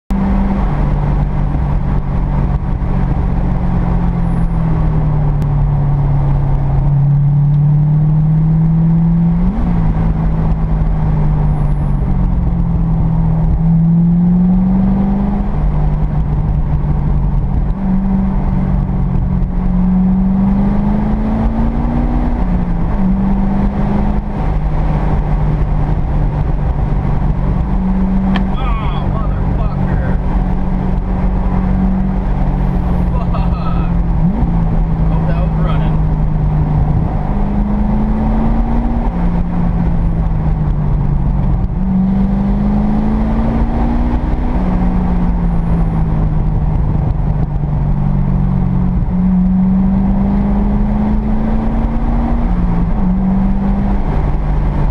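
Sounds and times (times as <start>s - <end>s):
car engine while driving: 0.1s - 54.9s
tyre and wind rumble: 0.1s - 54.9s.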